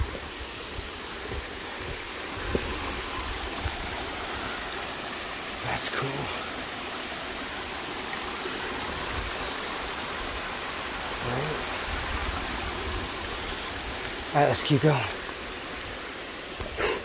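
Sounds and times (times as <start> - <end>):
water rushing over cascade: 0.0 - 17.0.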